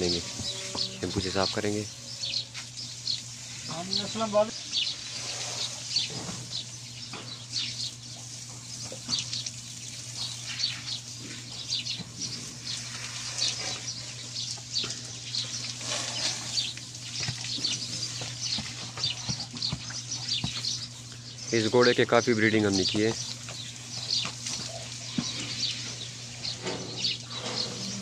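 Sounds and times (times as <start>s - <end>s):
hose water spraying and splashing: 0.0s - 28.0s
small birds chirping: 0.0s - 28.0s.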